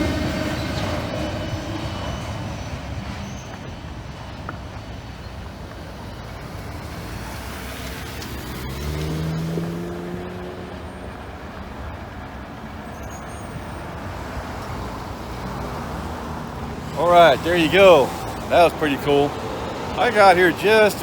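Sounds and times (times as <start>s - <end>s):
freight train rumble: 0.0s - 7.1s, 10.7s - 21.0s
road vehicle engine hum: 0.0s - 21.0s.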